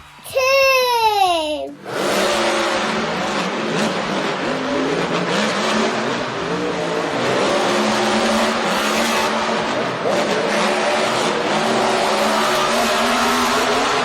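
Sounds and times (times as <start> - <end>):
monster truck engines racing: 0.0 - 14.0.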